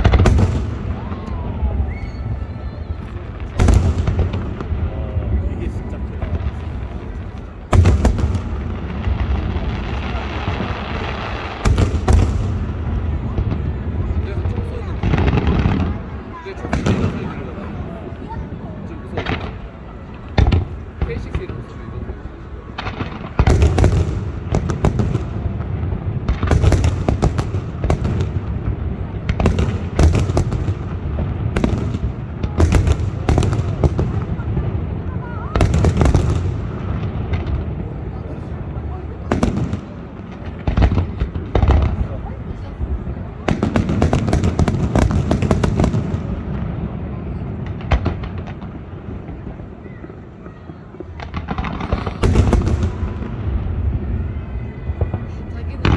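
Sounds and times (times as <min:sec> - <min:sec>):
fireworks booming: 0:00.0 - 0:55.9
fireworks crackling: 0:00.0 - 0:55.9.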